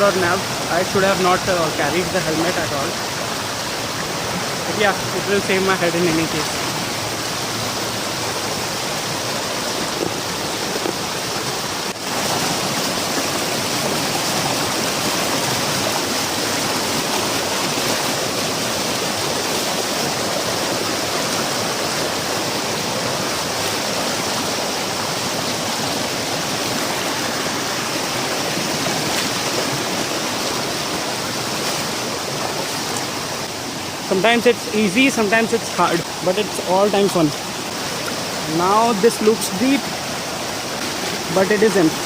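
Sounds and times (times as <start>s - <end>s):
stream water rushing over rocks: 0.0s - 42.0s.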